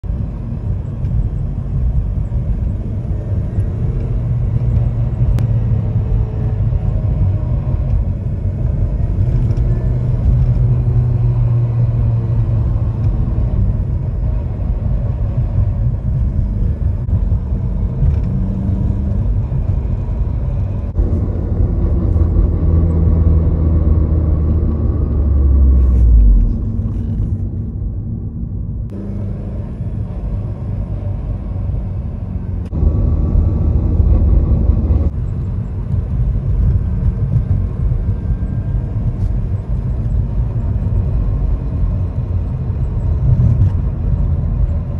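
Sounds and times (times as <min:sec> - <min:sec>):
car engine under throttle: 0:00.0 - 0:44.9.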